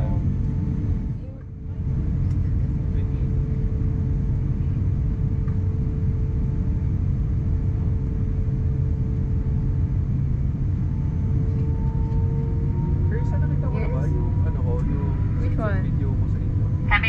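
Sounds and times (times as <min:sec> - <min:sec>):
aircraft engines low rumble: 0:00.0 - 0:17.0
steady cabin hum: 0:00.0 - 0:17.0.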